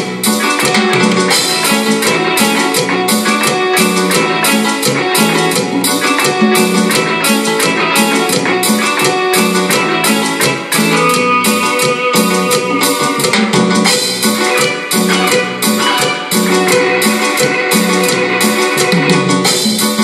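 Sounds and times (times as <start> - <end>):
backing beat percussion: 0.0 - 20.0
repeating bass line: 0.0 - 20.0
synthesizer keyboard music: 0.0 - 20.0.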